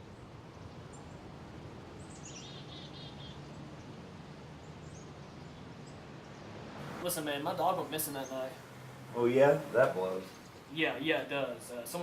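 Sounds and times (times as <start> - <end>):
low background noise: 0.0 - 12.0
small birds chirping: 0.0 - 12.0.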